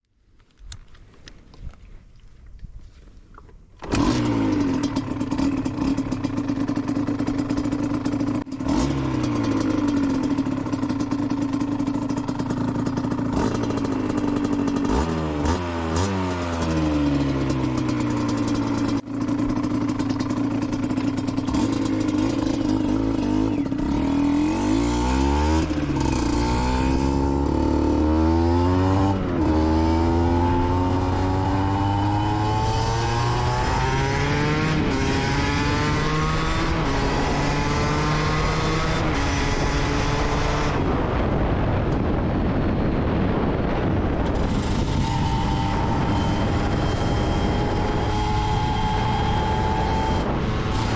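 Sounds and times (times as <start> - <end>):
two-stroke motorcycle engine revving: 3.8 - 50.9.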